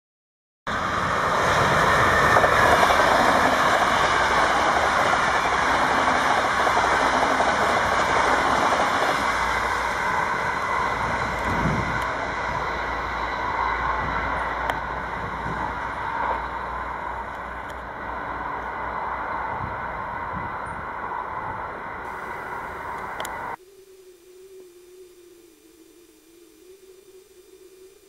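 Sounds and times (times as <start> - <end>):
train wheels rumbling on rails: 0.7 - 23.6.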